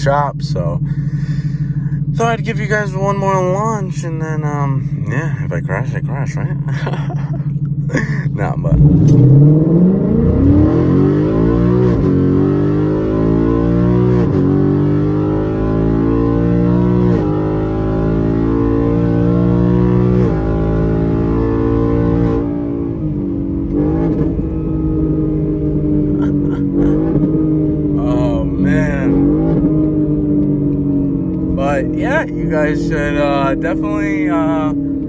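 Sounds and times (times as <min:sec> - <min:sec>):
car exhaust pulling through gears: 0:00.0 - 0:35.0.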